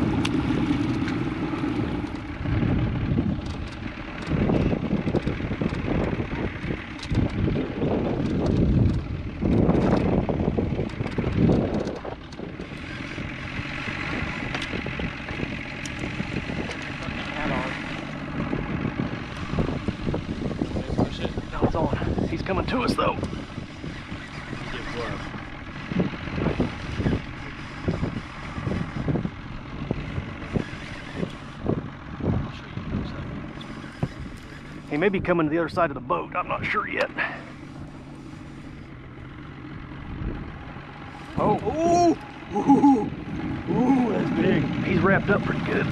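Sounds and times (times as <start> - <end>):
wind buffeting the microphone: 0.0 - 45.9.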